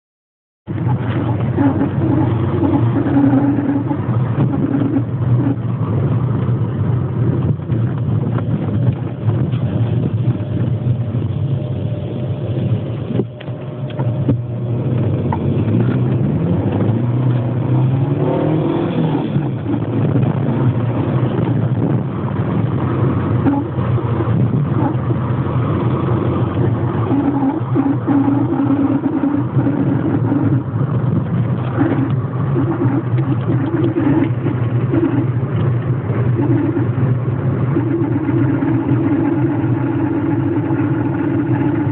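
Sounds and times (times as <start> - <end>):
car engine revving: 0.7 - 41.9.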